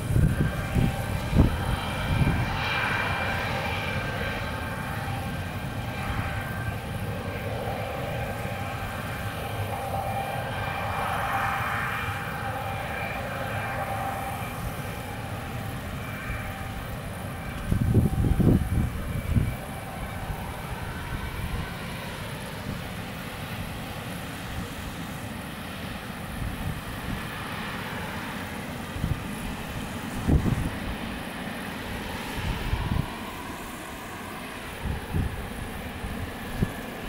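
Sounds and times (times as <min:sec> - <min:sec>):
freight train rolling past: 0:00.0 - 0:37.0.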